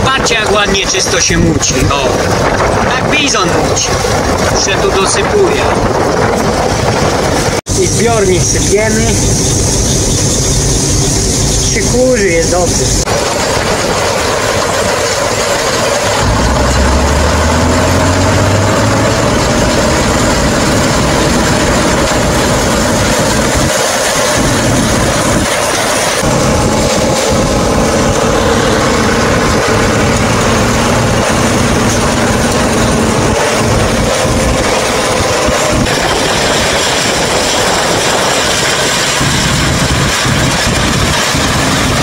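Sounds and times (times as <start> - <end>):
combine harvester drone: 0.0 - 42.0
deeper hum: 0.0 - 42.0.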